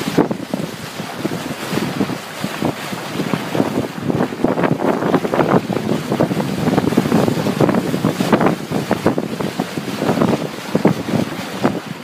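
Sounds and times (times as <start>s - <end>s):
sea water splashing around boat: 0.0s - 12.0s
wind buffeting microphone: 0.0s - 12.0s.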